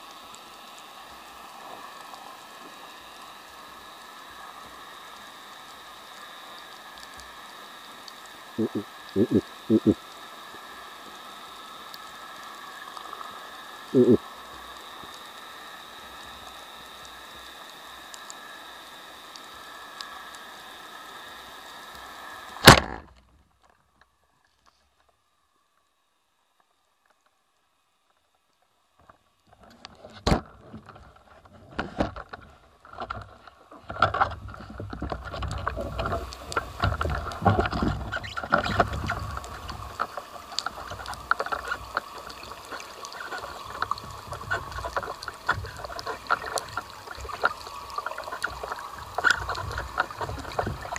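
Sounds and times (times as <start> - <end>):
bubbling and rushing water: 0.0 - 22.8, 29.5 - 50.9
underwater hum with held tones: 0.0 - 50.9.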